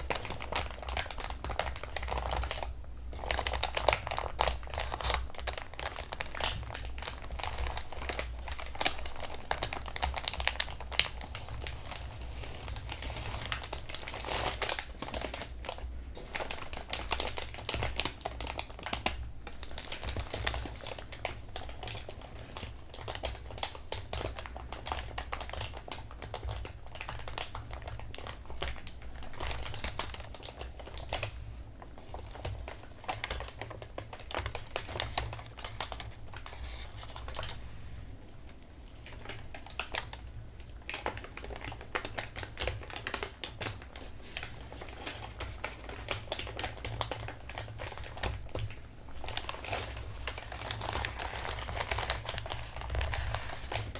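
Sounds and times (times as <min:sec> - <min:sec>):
fingertips tapping paper: 0:00.0 - 0:37.6, 0:39.2 - 0:53.9
paper crinkling: 0:00.0 - 0:53.9.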